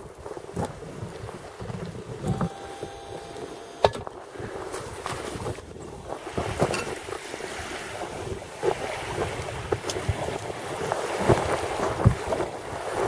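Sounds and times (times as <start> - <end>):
small waves lapping at shore: 0.0 - 13.0
wind: 0.0 - 13.0.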